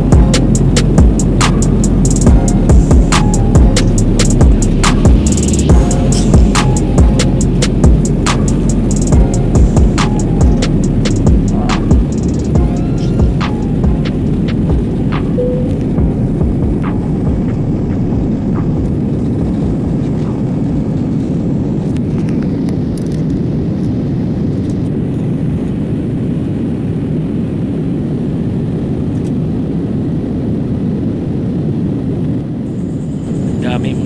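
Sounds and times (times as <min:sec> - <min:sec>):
jet engines and airflow roaring: 0:00.0 - 0:34.0.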